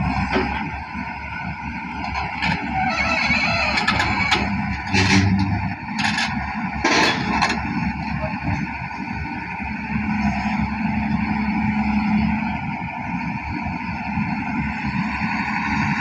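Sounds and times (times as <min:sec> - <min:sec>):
motor vehicle running: 0:00.0 - 0:16.0.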